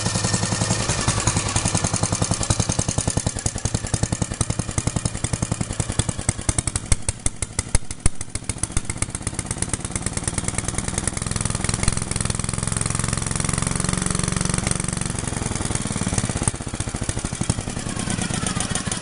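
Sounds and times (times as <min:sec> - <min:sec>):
single-cylinder engine running: 0:00.0 - 0:19.0.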